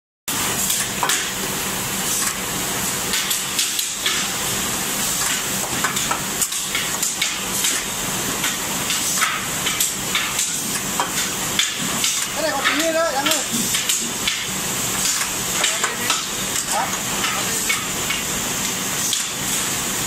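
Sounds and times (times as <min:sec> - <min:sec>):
chocolate depositing machine hiss: 0:00.3 - 0:20.0.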